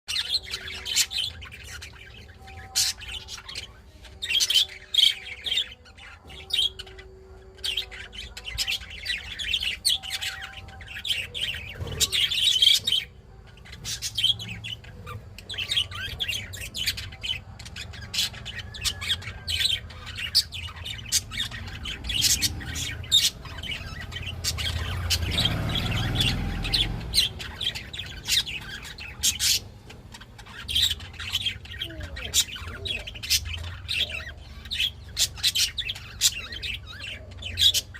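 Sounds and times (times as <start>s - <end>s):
budgerigar chirping and chattering: 0.1s - 37.9s.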